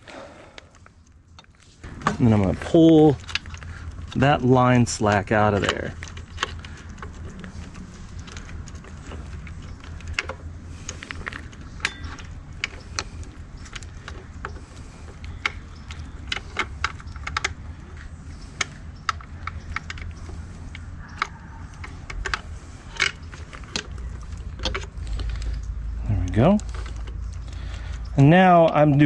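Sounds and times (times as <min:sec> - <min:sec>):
low steady hum: 0:00.0 - 0:29.0
plastic connectors clicking and rattling: 0:00.6 - 0:29.0.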